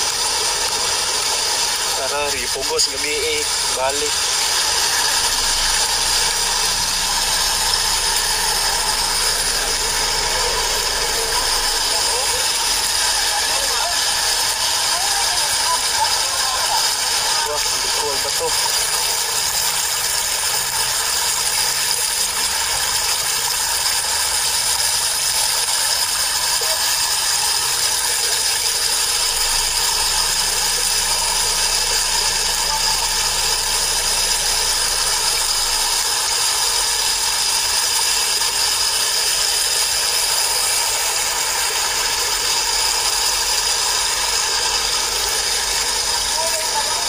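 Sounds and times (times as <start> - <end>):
floodwater rushing: 0.0 - 47.0.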